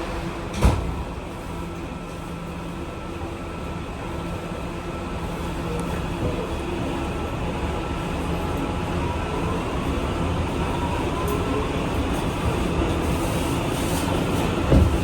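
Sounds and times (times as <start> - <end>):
subway wheels rumbling: 0.0 - 15.0.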